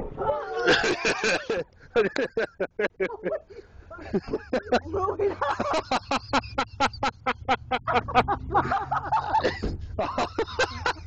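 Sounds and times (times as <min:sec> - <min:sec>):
person laughing hard: 0:00.6 - 0:11.0.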